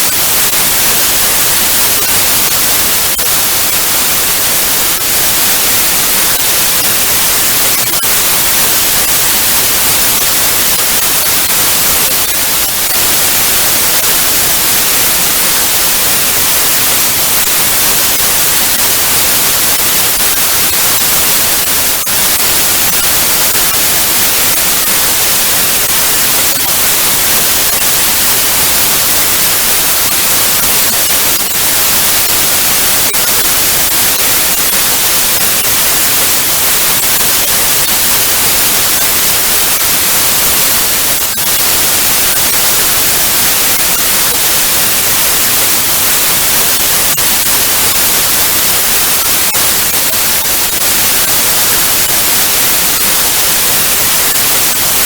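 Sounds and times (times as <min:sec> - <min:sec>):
tv static hiss: 0:00.0 - 0:55.0.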